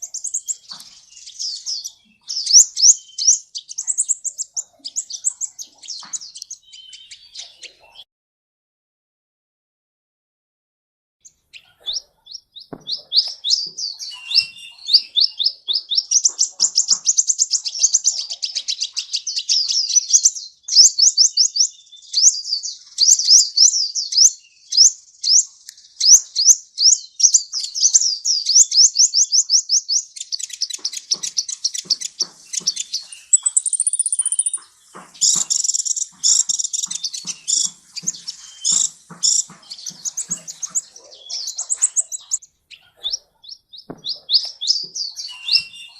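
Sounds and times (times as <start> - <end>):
bird singing high chirps: 0.0 - 8.0, 11.2 - 45.9.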